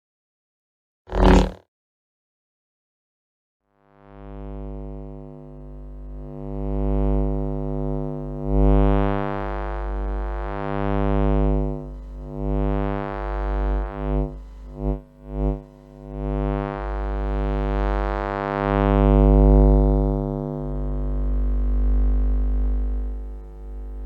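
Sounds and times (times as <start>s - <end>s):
buzzy electrical hum: 3.9s - 24.0s.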